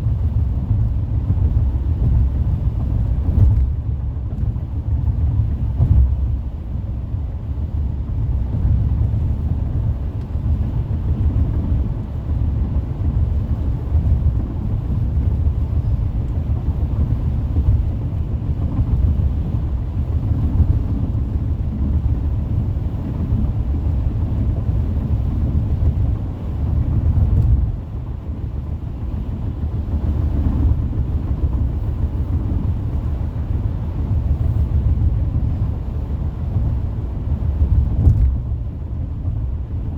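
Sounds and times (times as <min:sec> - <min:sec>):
car road and tyre rumble: 0:00.0 - 0:39.9.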